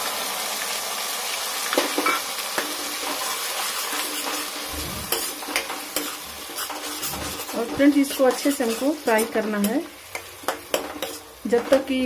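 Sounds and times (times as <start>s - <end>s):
onion paste sizzling in oil: 0.0s - 12.0s
spatula stirring and knocking pan: 1.8s - 12.0s.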